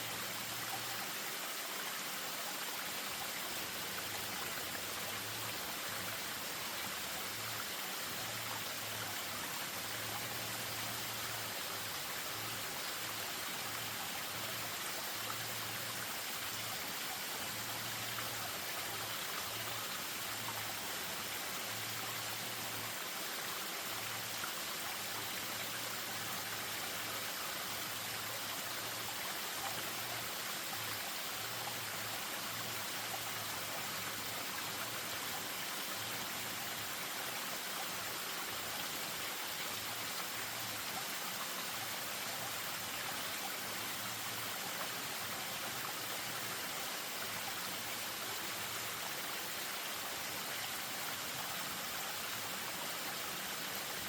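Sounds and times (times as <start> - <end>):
stream over small waterfall: 0.0 - 54.0.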